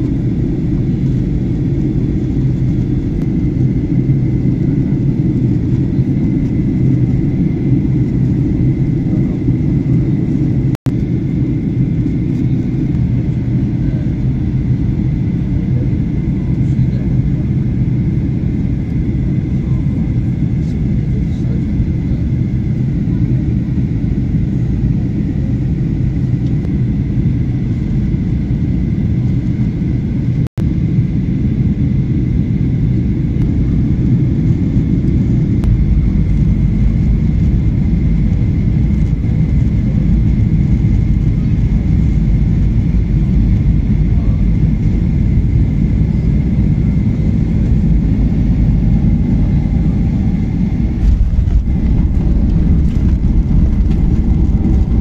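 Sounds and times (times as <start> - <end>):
airliner engine and airflow rumble: 0.0 - 55.0.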